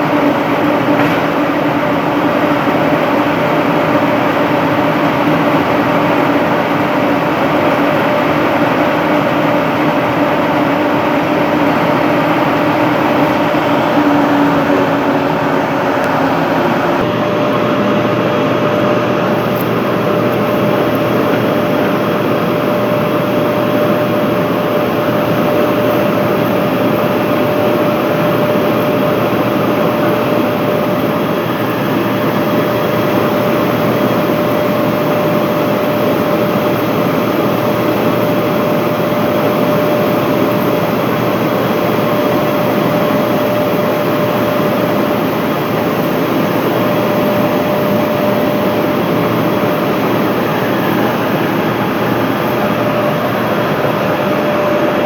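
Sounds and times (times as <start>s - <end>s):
slitting machine running: 0.0s - 55.0s.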